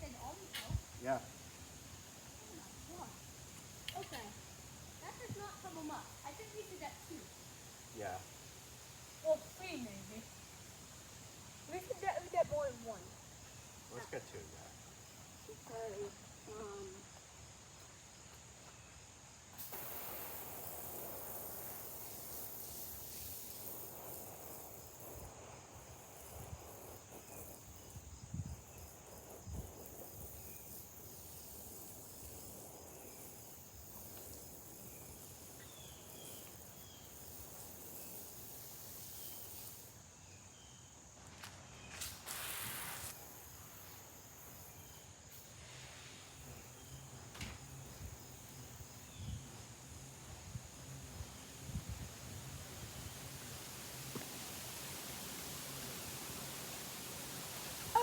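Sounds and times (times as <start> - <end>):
high insect trill: 0.0 - 58.0
soft even hiss: 0.0 - 58.0.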